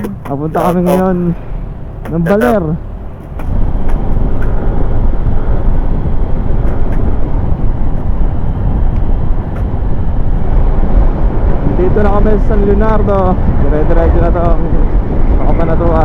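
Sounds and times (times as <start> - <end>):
road noise: 0.0 - 16.0
wind rush: 0.0 - 16.0.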